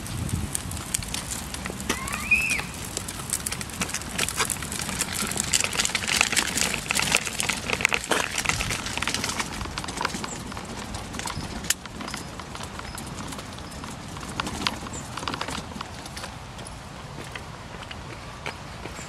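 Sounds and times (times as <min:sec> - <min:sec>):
stroller wheels rattling on paving: 0:00.0 - 0:19.0.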